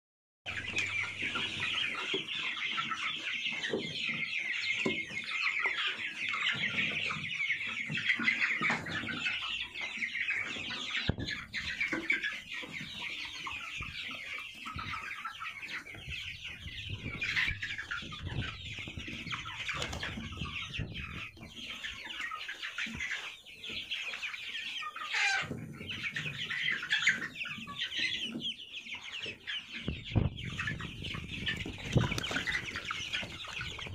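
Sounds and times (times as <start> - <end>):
chicks peeping and clucking: 0.5 - 33.9.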